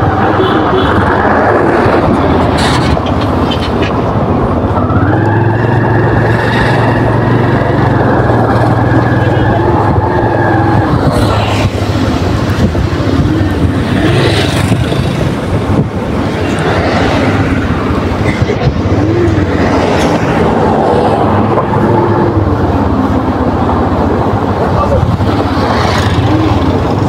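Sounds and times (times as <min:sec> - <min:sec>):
wind rushing over microphone: 0:00.0 - 0:27.0
motorbike engine revving: 0:04.7 - 0:27.0.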